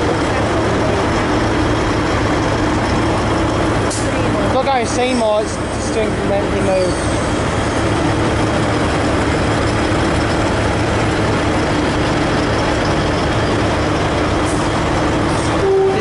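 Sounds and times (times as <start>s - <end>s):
train diesel engines droning: 0.0s - 16.0s.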